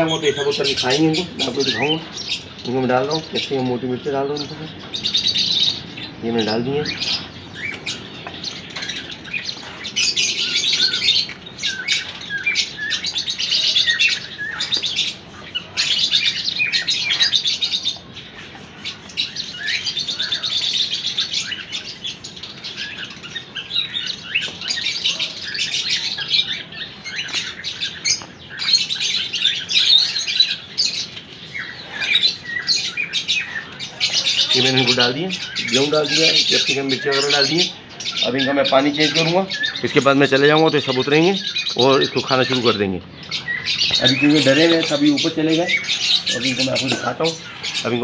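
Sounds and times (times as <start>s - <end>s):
finches chirping and twittering: 0.0s - 48.0s.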